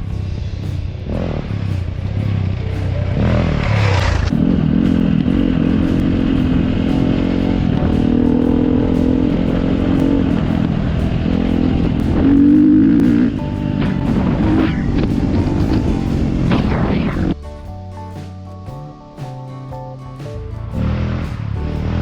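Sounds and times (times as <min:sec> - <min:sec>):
dirt bike engine revving: 0:00.0 - 0:17.4, 0:20.8 - 0:22.0.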